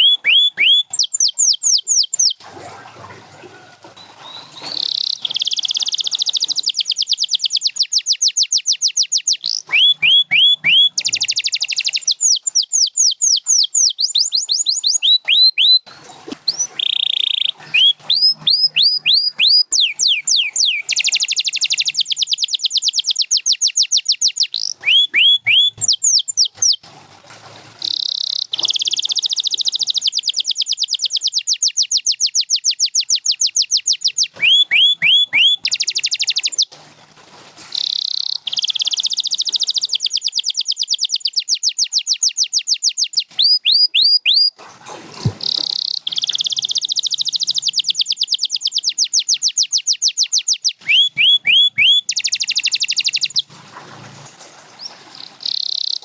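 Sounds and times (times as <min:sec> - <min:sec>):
canary singing trills: 0:00.0 - 0:02.9, 0:03.6 - 0:26.8, 0:27.9 - 0:36.7, 0:37.7 - 0:44.6, 0:45.2 - 0:53.5, 0:54.7 - 0:56.0.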